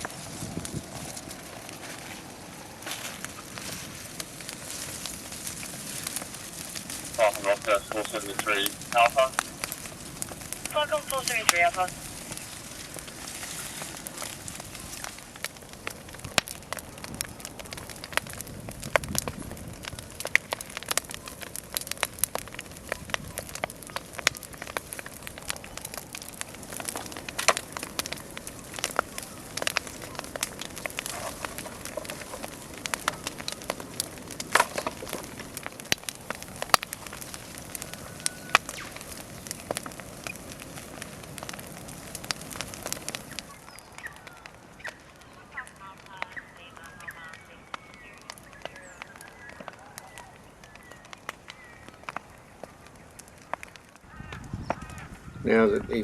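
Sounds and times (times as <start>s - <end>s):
bonfire roaring and crackling: 0.0s - 56.0s.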